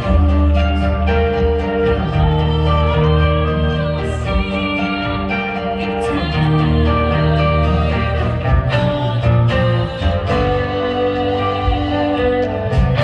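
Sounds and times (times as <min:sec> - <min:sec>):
live dance band playing: 0:00.0 - 0:13.0.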